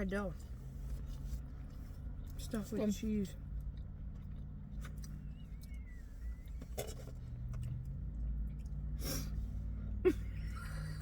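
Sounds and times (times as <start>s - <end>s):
quiet eating sounds: 0.4s - 10.3s.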